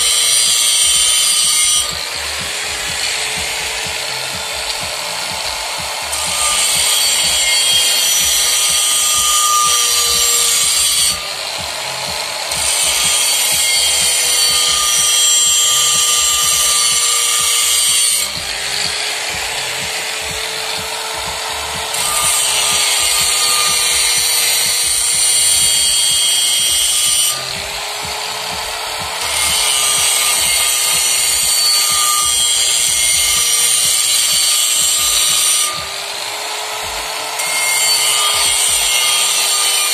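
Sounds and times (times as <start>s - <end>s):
angle grinder whining: 0.0s - 39.9s
grinder disc grinding metal: 0.0s - 39.9s.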